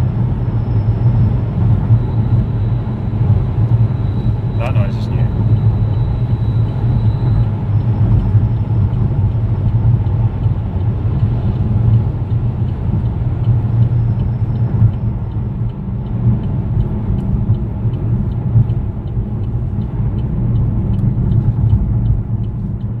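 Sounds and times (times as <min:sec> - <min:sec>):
car engine rumble: 0:00.0 - 0:23.0
faint regular ticking: 0:02.2 - 0:23.0.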